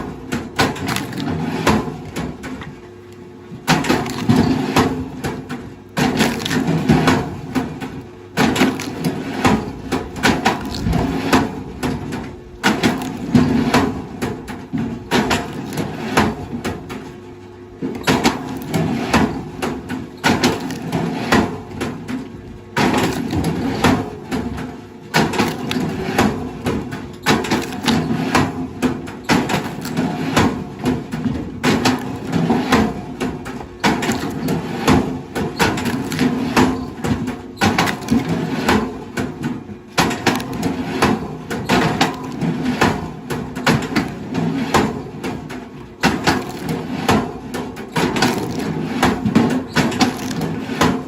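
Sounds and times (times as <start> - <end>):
wood cracking and splintering: 0.4 - 2.7, 3.6 - 17.1, 17.9 - 51.0.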